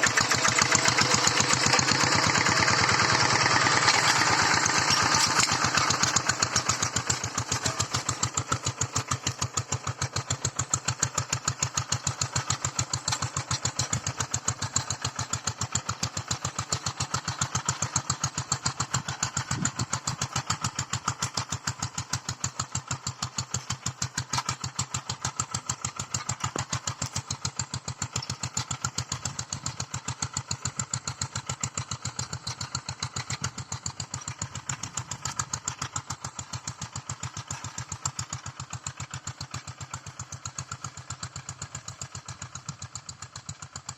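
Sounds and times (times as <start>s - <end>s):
hand tractor engine chugging: 0.0s - 43.9s.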